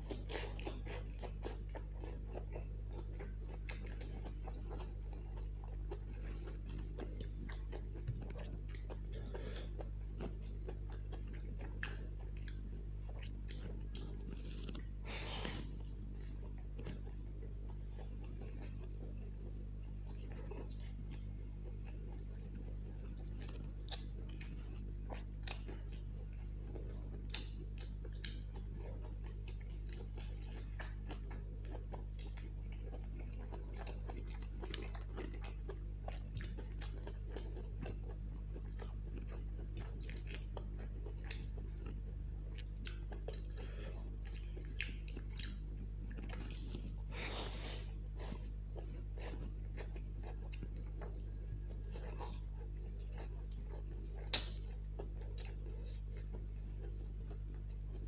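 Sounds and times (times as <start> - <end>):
steady low hum: 0.0 - 58.0
wet chewing mouth sounds: 0.0 - 58.0.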